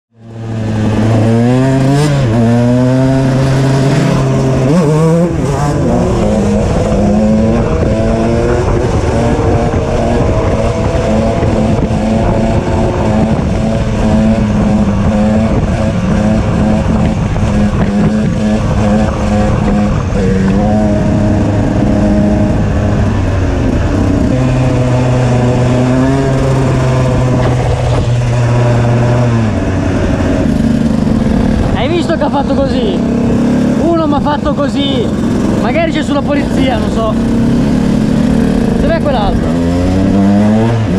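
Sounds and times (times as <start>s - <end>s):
two-stroke motorcycle engine revving: 0.1s - 40.9s.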